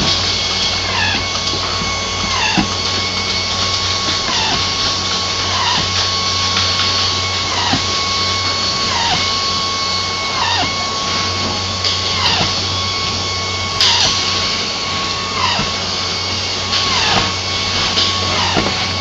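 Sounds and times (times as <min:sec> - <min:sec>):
low factory hum: 0:00.0 - 0:19.0
power screwdriver whining: 0:00.0 - 0:19.0.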